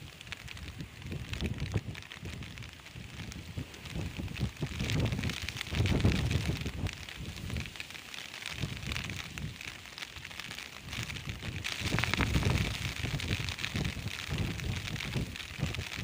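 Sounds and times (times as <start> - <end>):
wind buffeting microphone: 0.0 - 7.8, 8.4 - 16.0
light crackling rustle: 0.0 - 16.0.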